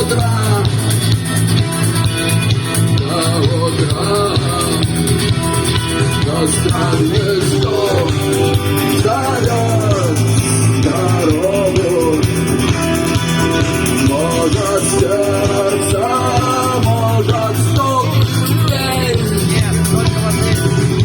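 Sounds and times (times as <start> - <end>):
rock band music: 0.0 - 21.0.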